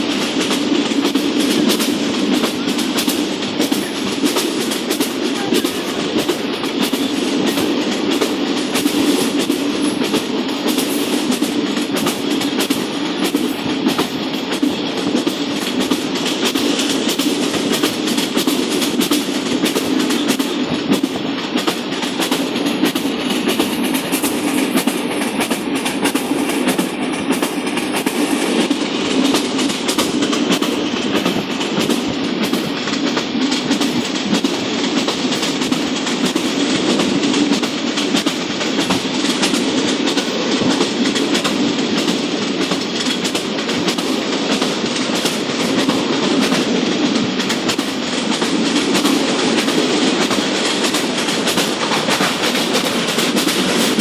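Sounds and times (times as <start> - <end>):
train rumble: 0.0 - 54.0
train wheels clattering over rails: 0.0 - 54.0.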